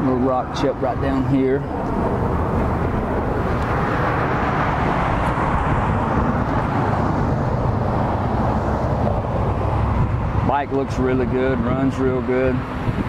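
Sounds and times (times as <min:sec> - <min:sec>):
constant rushing noise: 0:00.0 - 0:13.0
vehicle engine hum: 0:00.0 - 0:13.0.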